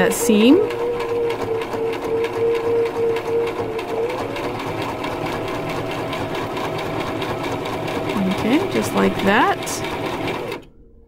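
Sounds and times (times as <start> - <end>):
sewing machine stitching: 0.0 - 10.7.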